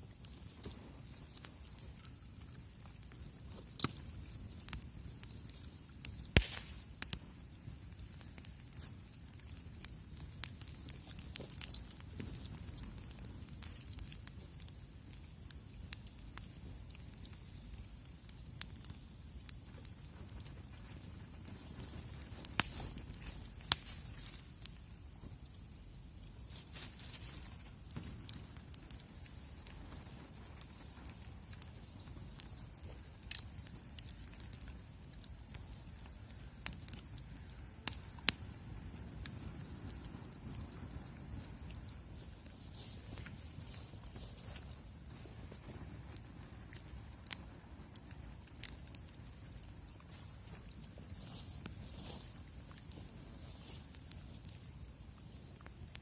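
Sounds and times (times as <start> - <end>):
bonfire crackling and popping: 0.0 - 56.0.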